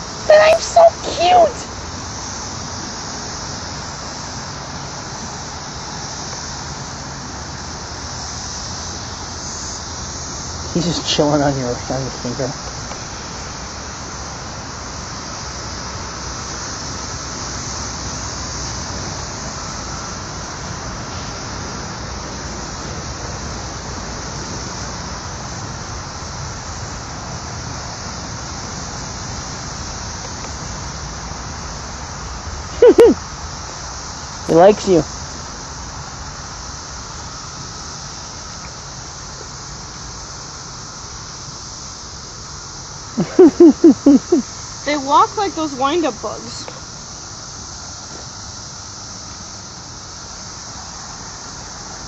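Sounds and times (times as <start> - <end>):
cicadas whirring drone: 0.0 - 52.0.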